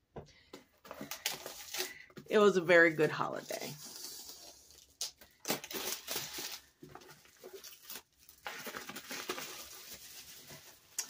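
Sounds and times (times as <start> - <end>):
plastic shrink wrap crinkling: 0.8 - 2.5, 3.2 - 11.0.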